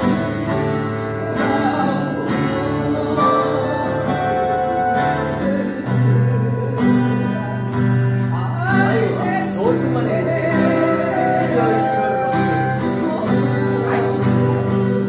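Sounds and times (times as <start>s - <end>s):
flute melody with vibrato: 0.0s - 7.6s, 9.7s - 15.0s
guitar backing track: 0.0s - 15.0s.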